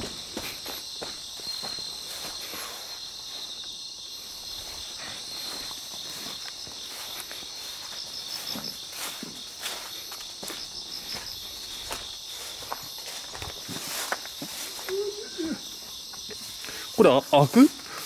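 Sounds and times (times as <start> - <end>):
footsteps on ground: 0.0 - 16.7
high-pitched insect drone: 0.0 - 18.0.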